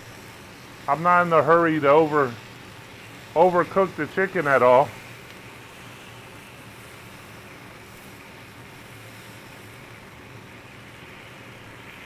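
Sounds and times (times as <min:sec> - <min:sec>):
griddle sizzling: 0:00.0 - 0:12.0.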